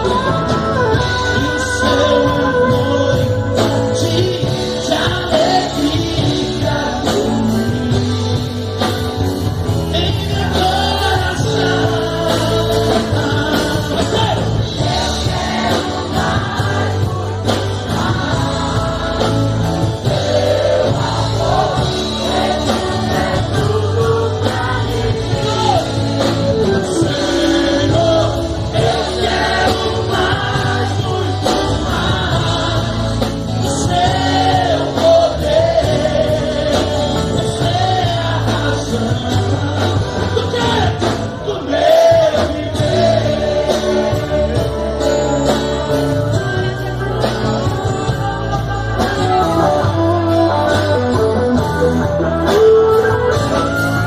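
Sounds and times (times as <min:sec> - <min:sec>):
man singing: 0:00.0 - 0:53.1
acoustic guitar: 0:00.0 - 0:54.0.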